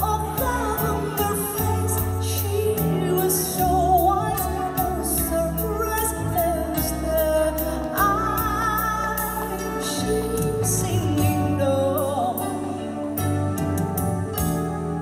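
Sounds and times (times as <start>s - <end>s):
electronic keyboard with beat: 0.0s - 15.0s
woman singing ballad: 0.0s - 15.0s.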